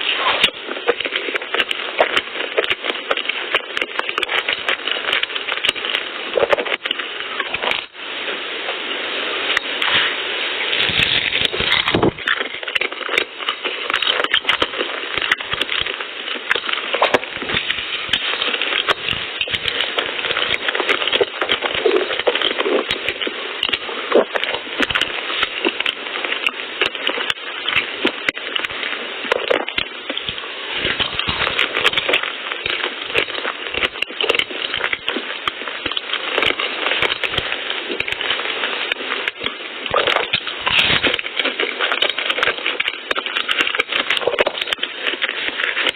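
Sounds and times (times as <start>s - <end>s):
chewing pastries close up: 0.0s - 8.0s, 9.5s - 45.9s.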